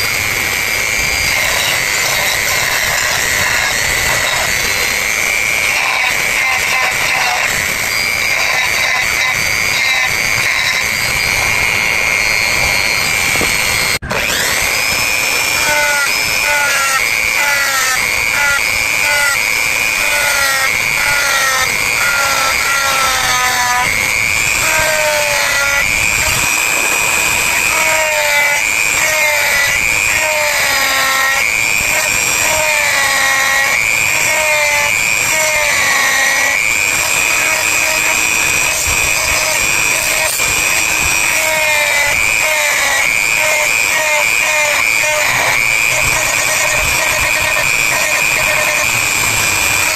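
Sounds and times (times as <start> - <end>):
rotary tool whining: 0.0 - 49.9.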